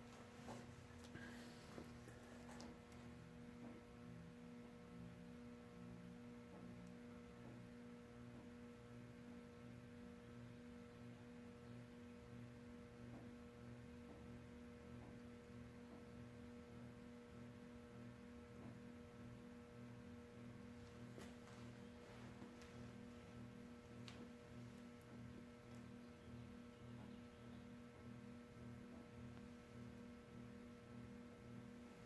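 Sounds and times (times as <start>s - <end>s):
ceiling fan motor humming: 0.0s - 32.0s.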